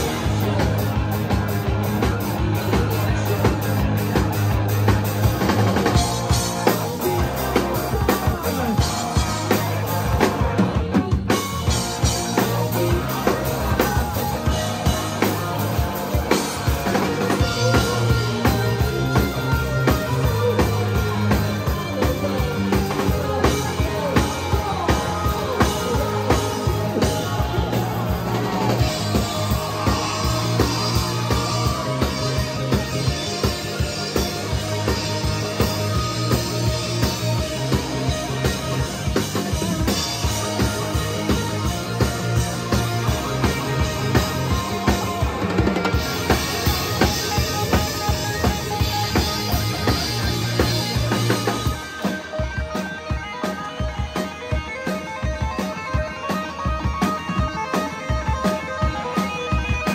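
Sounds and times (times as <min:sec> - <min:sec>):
bass guitar: 0:00.0 - 0:59.9
drum kit steady beat: 0:00.0 - 0:59.9
electric guitars: 0:00.0 - 0:59.9.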